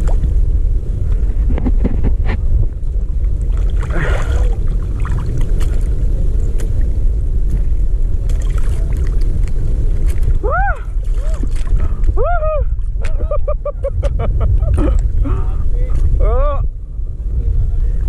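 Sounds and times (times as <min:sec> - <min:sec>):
choppy sea: 0:00.0 - 0:18.0
wind buffeting microphone: 0:00.0 - 0:18.0.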